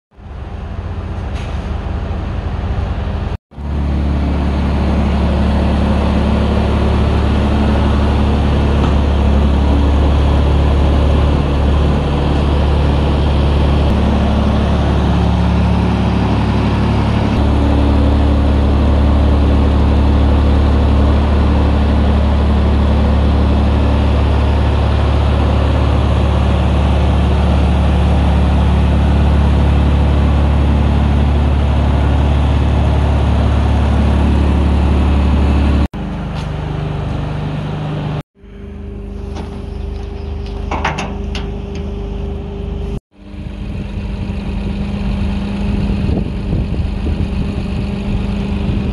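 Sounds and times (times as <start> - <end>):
diesel engine idling: 0.2 - 48.9.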